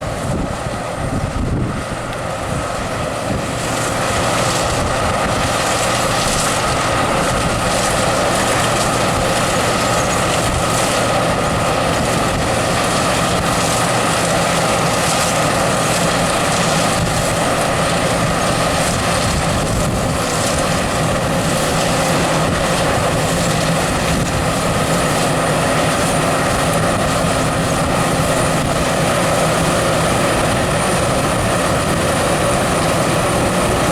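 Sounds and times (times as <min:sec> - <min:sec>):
combine harvester droning: 0:00.0 - 0:33.9.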